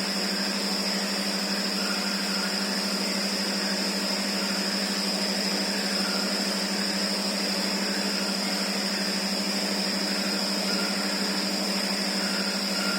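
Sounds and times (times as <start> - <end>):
high even whine: 0.0 - 12.9
low machine hum: 0.0 - 12.9.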